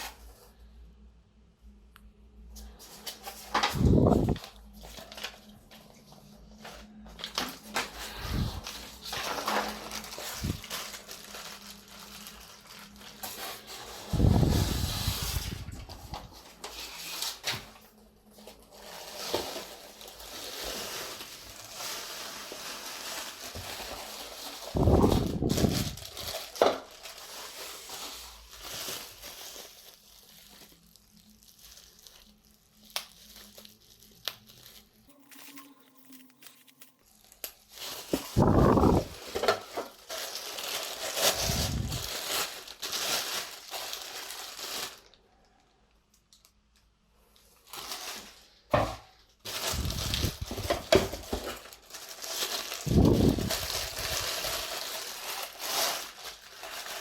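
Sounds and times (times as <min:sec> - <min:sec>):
plastic film crinkling and tearing: 0:00.0 - 0:00.6, 0:02.4 - 0:35.2, 0:37.0 - 0:57.0.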